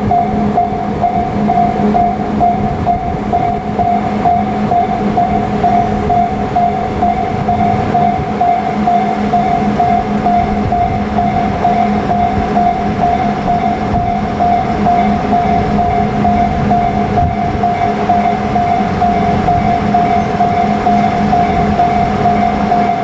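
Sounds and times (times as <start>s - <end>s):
level crossing warning bell: 0.0s - 23.0s.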